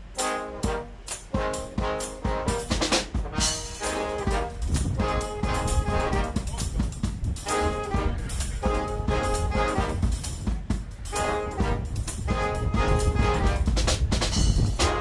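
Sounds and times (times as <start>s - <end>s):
saxophone: 0.0s - 6.8s, 7.4s - 10.5s, 11.1s - 15.0s
trombone: 0.0s - 15.0s
trumpets: 0.0s - 15.0s.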